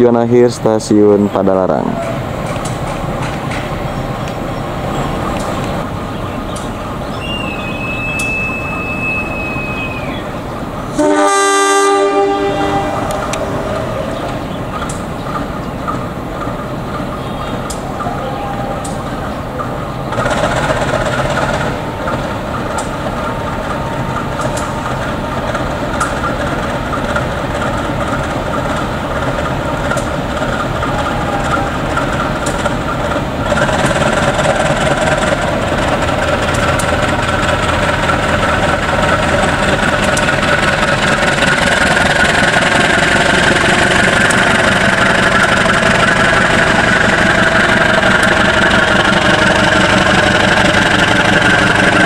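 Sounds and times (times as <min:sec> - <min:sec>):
locomotive engine running: 0:00.0 - 0:52.0.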